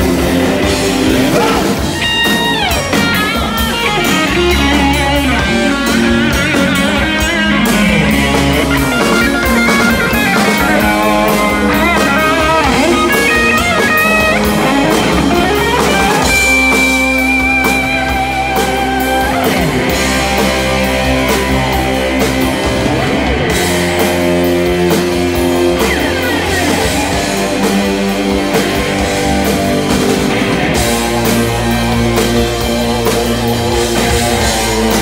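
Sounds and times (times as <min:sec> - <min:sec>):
bass guitar: 0:00.0 - 0:35.0
drum kit: 0:00.0 - 0:35.0
electric guitar lead: 0:00.0 - 0:35.0.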